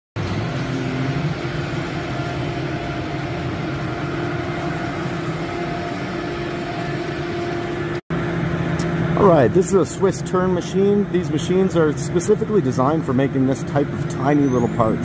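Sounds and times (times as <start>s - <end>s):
lathe machine humming: 0.2s - 15.0s.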